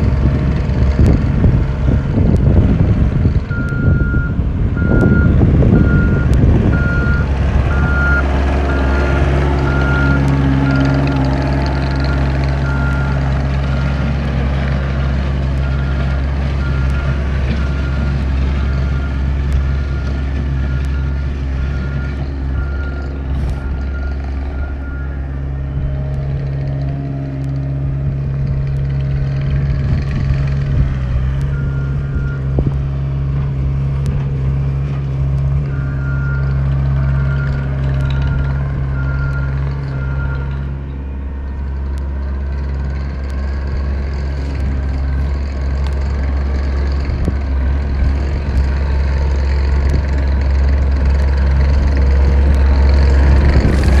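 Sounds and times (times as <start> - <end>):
skid steer engine working: 0.0 - 54.0.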